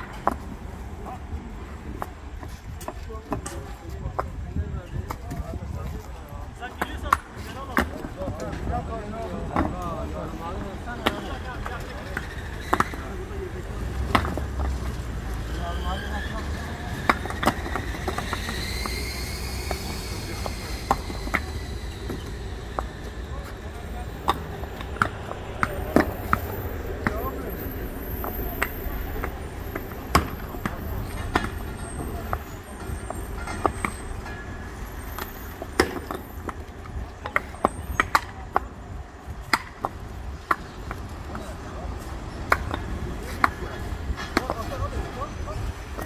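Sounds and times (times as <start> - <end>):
paving stones clacking: 0.0 - 46.0.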